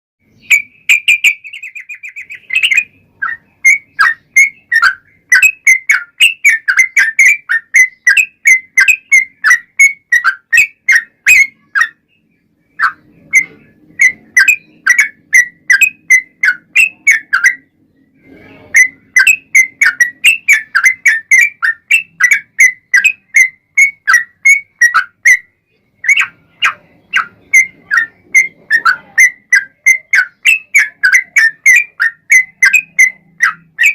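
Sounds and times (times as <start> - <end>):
bird singing bubbly whistled notes: 0.2 - 33.9.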